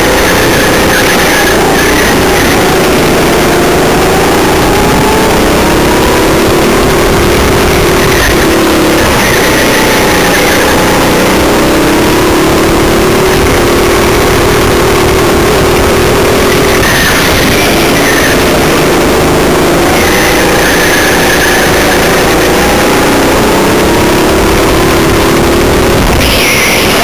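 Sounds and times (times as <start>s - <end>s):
go-kart engine: 0.0s - 27.0s.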